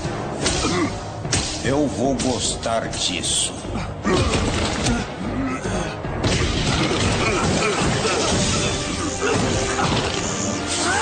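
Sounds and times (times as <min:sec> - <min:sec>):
action music: 0:00.0 - 0:11.0.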